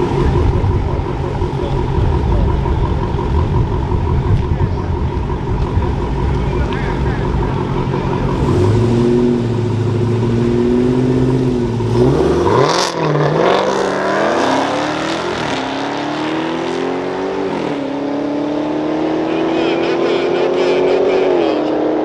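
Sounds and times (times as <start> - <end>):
drag racing car engines: 0.0 - 22.0.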